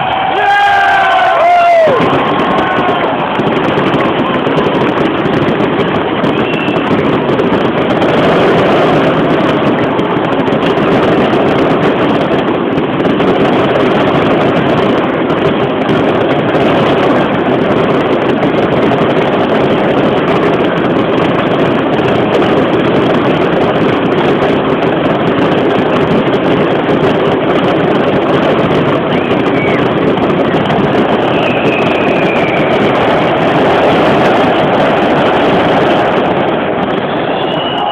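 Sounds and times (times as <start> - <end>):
fireworks distorted rumble: 0.0 - 37.9.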